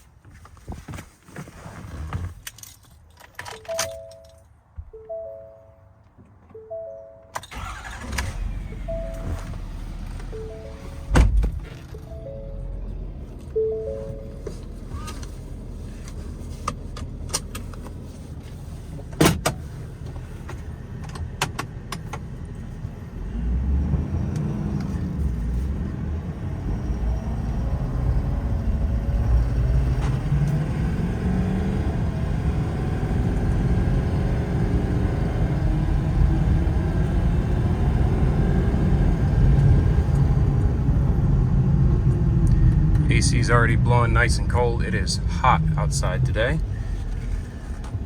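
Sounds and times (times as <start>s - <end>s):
diesel truck engine rumble: 7.5s - 48.0s.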